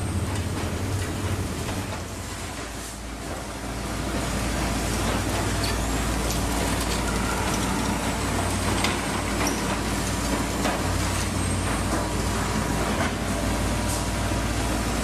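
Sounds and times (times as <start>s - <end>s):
tram rumble: 0.0s - 15.0s.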